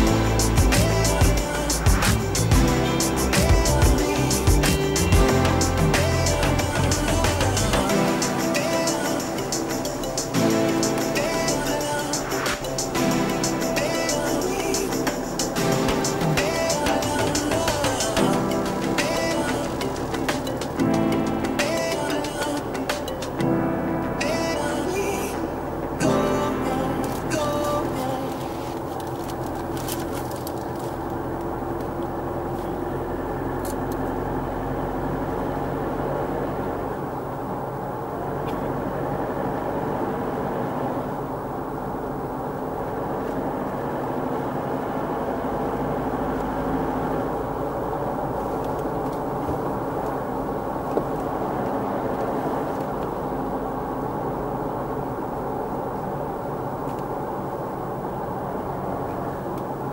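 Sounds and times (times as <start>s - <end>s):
car engine drone: 0.0s - 59.9s
tyres on road: 0.0s - 59.9s.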